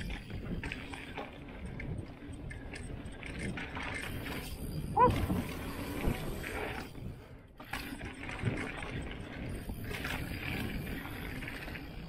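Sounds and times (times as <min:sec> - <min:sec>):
bike chain rattling and clicking: 0:00.0 - 0:12.0
bike tyres rumbling on dirt: 0:00.0 - 0:12.0.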